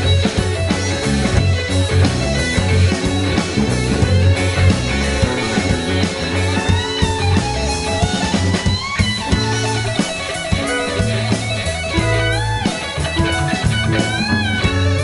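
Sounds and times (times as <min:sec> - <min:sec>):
drum kit beat: 0:00.0 - 0:15.0
electric guitars: 0:00.0 - 0:15.0.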